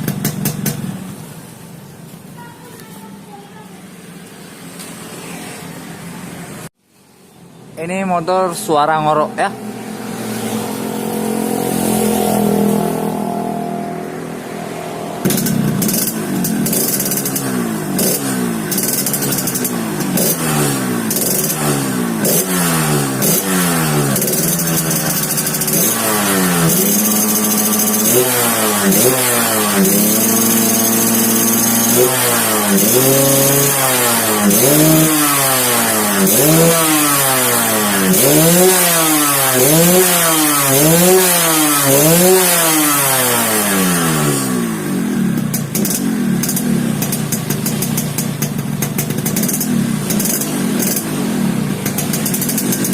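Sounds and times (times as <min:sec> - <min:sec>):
motorcycle engine revving: 0:00.0 - 0:01.7, 0:08.0 - 0:52.9.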